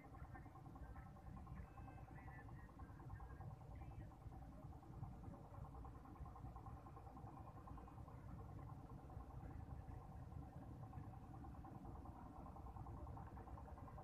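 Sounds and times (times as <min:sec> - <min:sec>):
faint engine running: 0:00.0 - 0:14.0.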